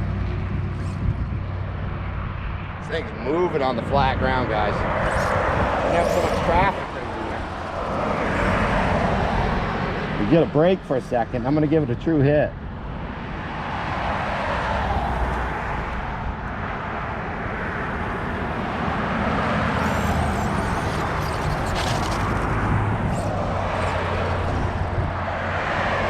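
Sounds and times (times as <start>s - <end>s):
vehicle running with low hum: 0.0s - 10.6s, 15.3s - 26.0s.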